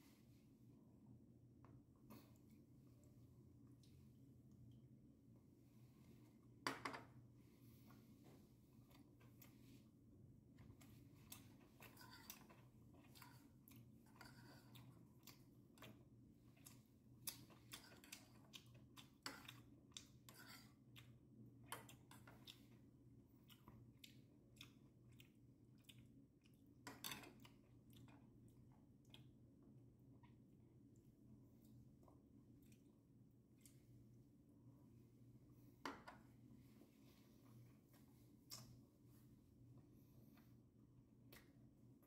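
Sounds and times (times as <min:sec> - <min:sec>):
soft chewing: 0:00.0 - 0:06.6, 0:07.4 - 0:42.0
low steady hum: 0:00.0 - 0:42.0.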